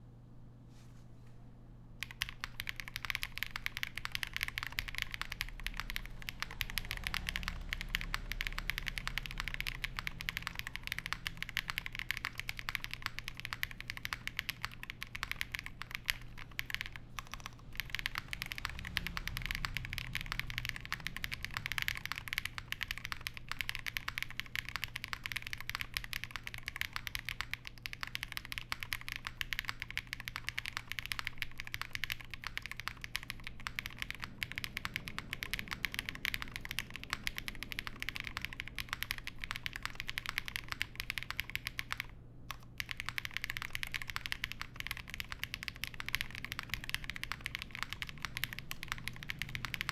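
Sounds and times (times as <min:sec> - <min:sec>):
fast typing on mechanical keyboard: 0:02.0 - 0:49.9.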